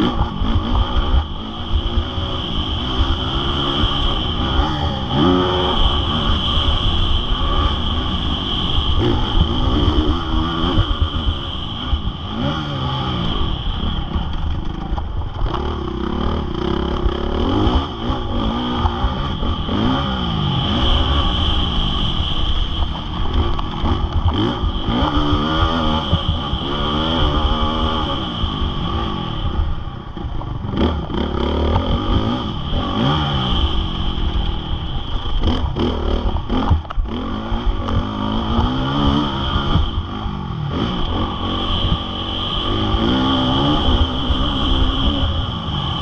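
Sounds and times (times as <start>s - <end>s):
motocross engine revving: 0.0s - 46.0s.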